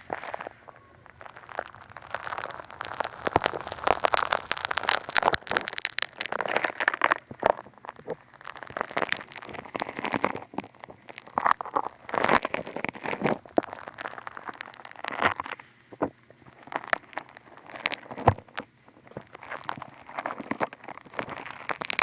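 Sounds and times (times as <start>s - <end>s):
foam crackling and popping: 0.0s - 22.0s.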